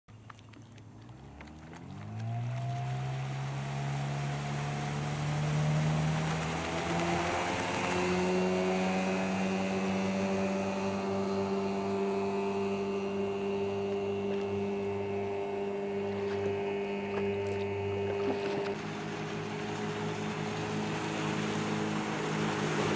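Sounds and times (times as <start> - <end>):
outboard motor running: 0.1 - 22.9.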